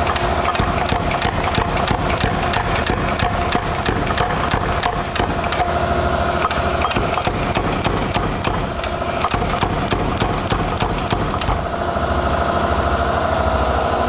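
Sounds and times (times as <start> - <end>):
power hammer striking steel: 0.0 - 11.9
steady motor hum: 0.0 - 14.0.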